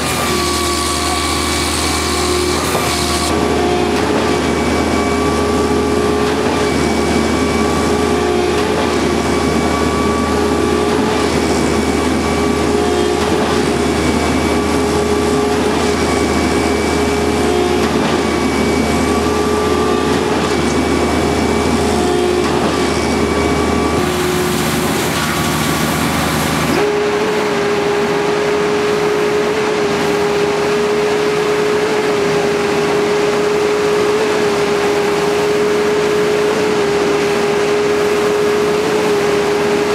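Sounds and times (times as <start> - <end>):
concrete pump engine drone: 0.0 - 39.9.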